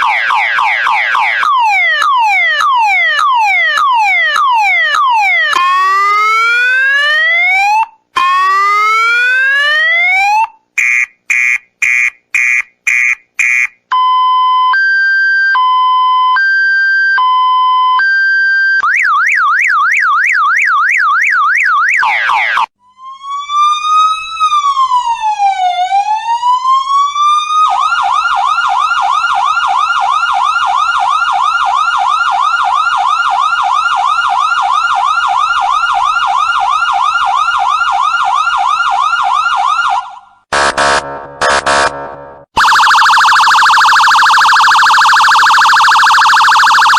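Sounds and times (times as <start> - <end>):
emergency vehicle siren: 0.0 - 10.6, 13.9 - 46.9.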